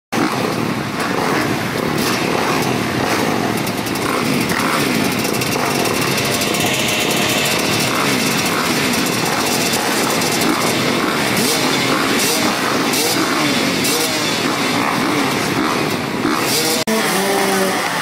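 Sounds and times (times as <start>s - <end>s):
motocross bikes revving: 0.2s - 18.0s.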